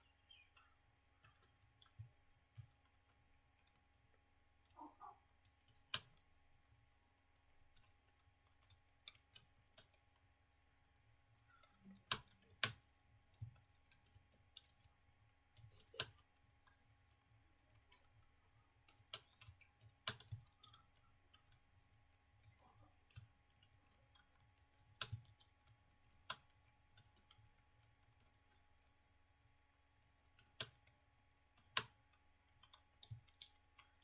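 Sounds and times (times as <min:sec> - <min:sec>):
computer keyboard keys clicking: 0:00.2 - 0:04.8, 0:07.7 - 0:10.3, 0:11.4 - 0:29.0, 0:30.0 - 0:34.0.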